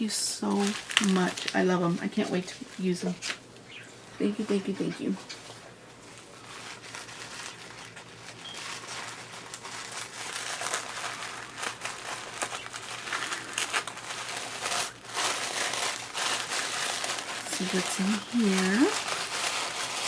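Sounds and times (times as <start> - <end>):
gift wrapping crinkling: 0.0 - 3.4, 4.3 - 20.0.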